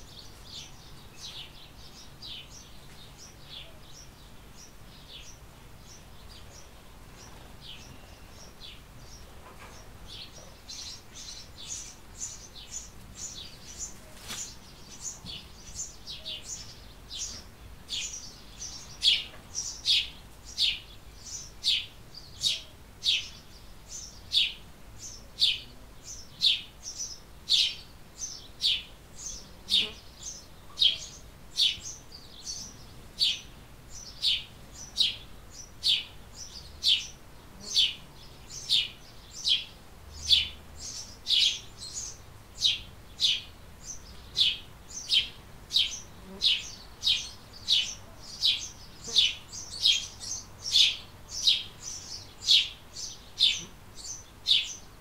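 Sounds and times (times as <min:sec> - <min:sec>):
sparrow chirping: 0:00.0 - 0:55.0.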